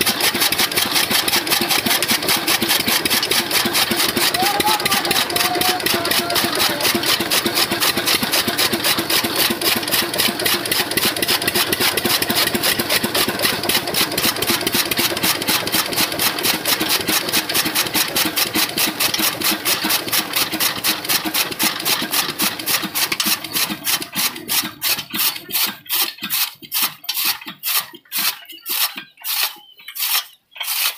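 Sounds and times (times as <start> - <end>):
diesel engine running: 0.0 - 26.6
chaff cutter beating: 0.0 - 30.9.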